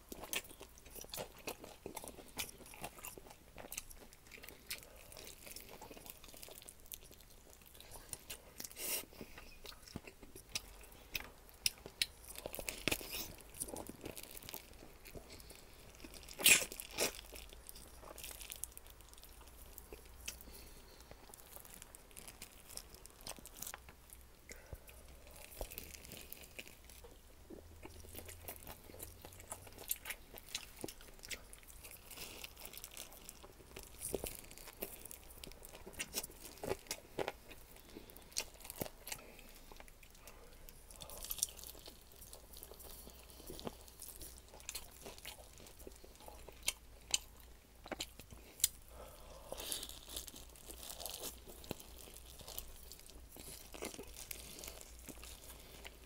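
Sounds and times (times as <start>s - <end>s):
crunching and chewing: 0.0s - 56.0s
crisp crust crackles: 0.1s - 24.2s, 25.1s - 27.2s, 27.9s - 56.0s.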